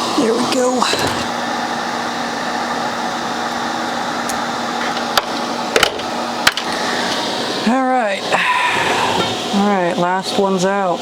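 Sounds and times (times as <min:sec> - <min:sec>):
fan motor whirring: 0:00.0 - 0:11.0.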